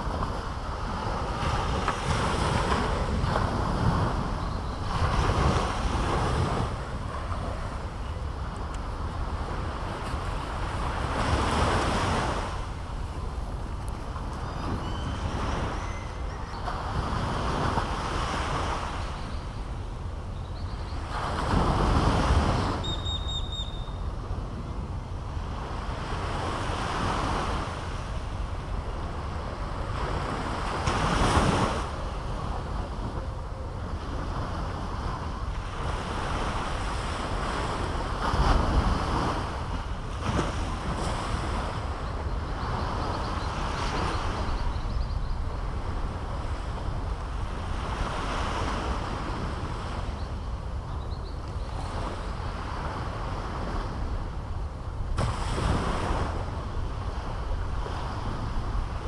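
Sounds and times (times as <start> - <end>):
surf breaking on a beach: 0.0 - 19.2, 20.9 - 23.3, 24.0 - 44.7, 51.6 - 59.0
wind rumbling on microphone: 0.0 - 59.0.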